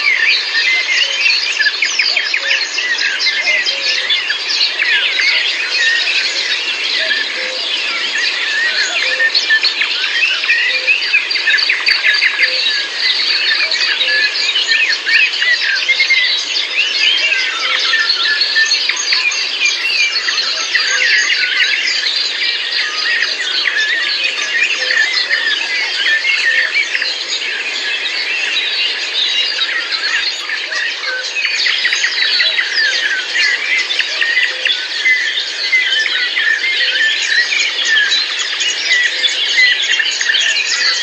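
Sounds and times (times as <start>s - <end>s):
birds chirping and trilling: 0.0s - 41.0s.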